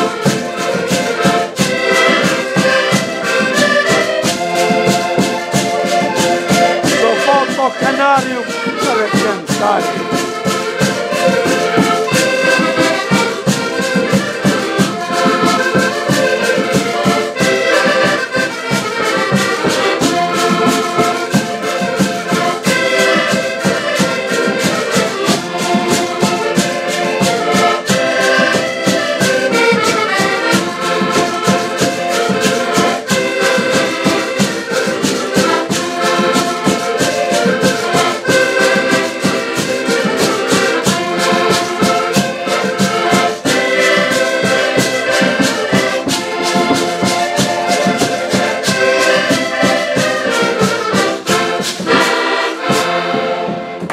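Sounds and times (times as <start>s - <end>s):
button accordions playing folk tune: 0.0s - 53.9s.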